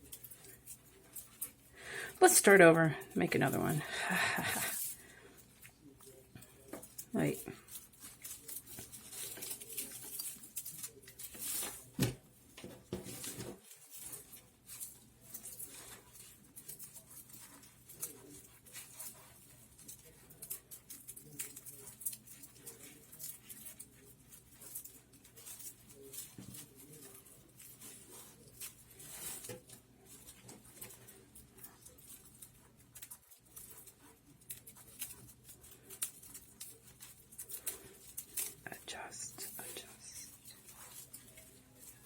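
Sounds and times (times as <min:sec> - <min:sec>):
dried palm frond crackling: 0:00.0 - 0:42.0.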